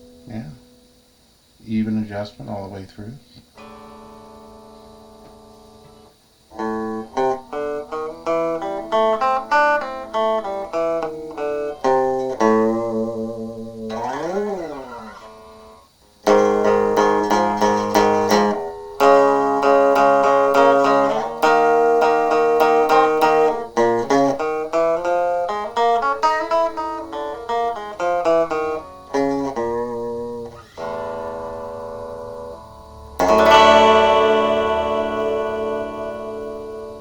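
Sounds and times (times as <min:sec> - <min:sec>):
electric guitar through amp: 0:03.3 - 0:37.0.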